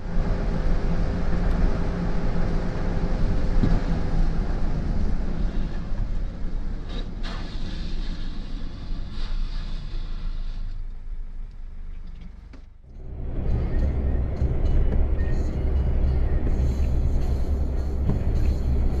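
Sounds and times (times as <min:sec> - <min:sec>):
road and engine rumble in vehicle: 0:00.0 - 0:19.0.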